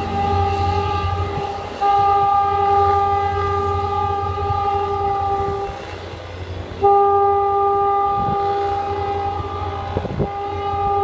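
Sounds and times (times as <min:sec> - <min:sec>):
train horn blast: 0:00.0 - 0:11.0.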